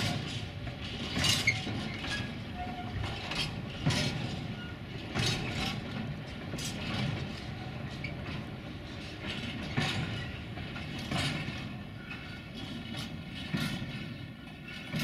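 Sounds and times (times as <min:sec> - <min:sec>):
train rumble: 0:00.0 - 0:15.0
train wheels clacking on rail joints: 0:00.0 - 0:15.0.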